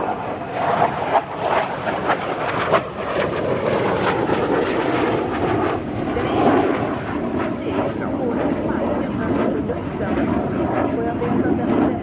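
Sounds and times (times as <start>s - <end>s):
jet engine rushing noise: 0.0s - 12.0s
rough jet crackle: 0.0s - 12.0s.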